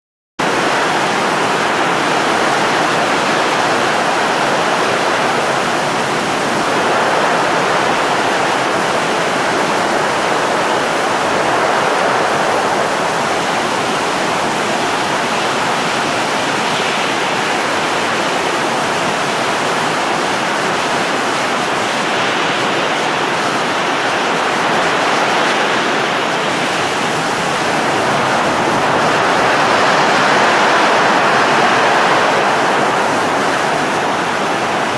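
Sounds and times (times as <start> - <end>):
rushing wind sound effect: 0.4 - 34.9.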